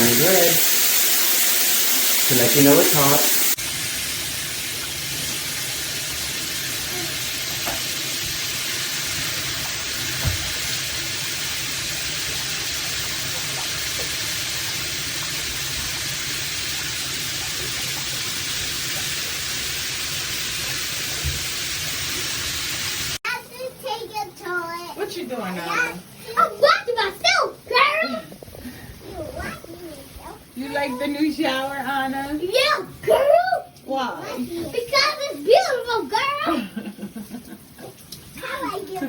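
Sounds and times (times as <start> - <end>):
shower water spraying: 0.0 - 39.0.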